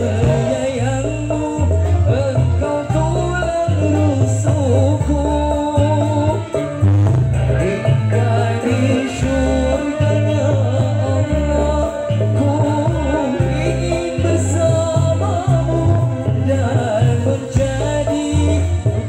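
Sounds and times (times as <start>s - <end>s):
bass line: 0.0s - 19.0s
live band music: 0.0s - 19.0s
person singing: 0.0s - 19.0s.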